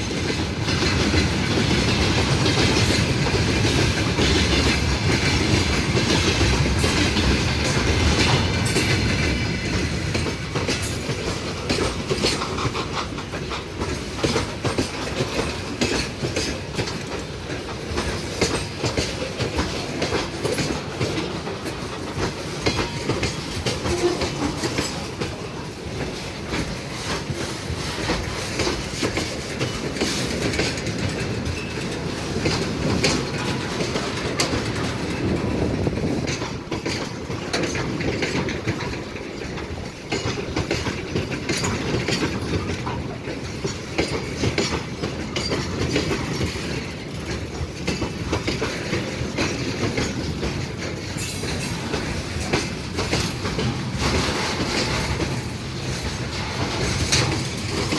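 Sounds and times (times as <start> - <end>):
train wheels clattering over rails: 0.0 - 57.9.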